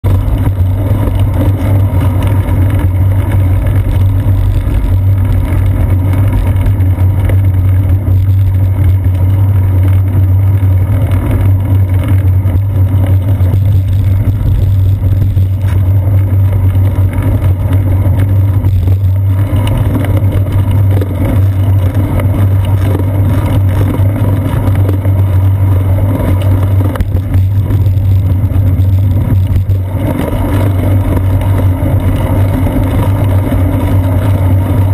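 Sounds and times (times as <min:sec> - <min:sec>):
road vibration: 0:00.0 - 0:34.9
wind rumble: 0:00.0 - 0:34.9.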